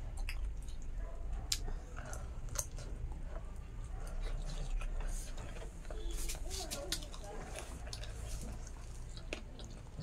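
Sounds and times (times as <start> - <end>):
low steady hum: 0.0 - 10.0
person chewing food: 0.0 - 10.0.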